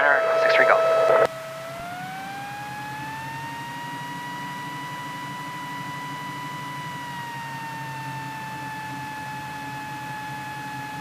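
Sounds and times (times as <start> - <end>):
aircraft engine idling: 0.0 - 11.0
thin engine whine: 0.0 - 11.0.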